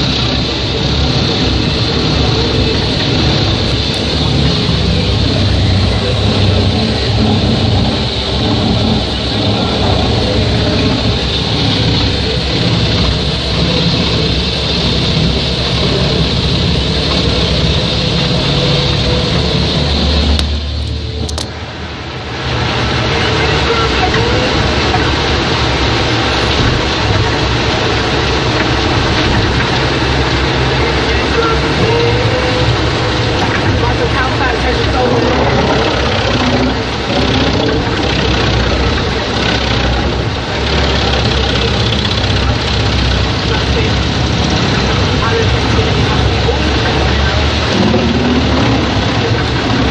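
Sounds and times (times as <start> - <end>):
wood chipper running: 0.0 - 49.9.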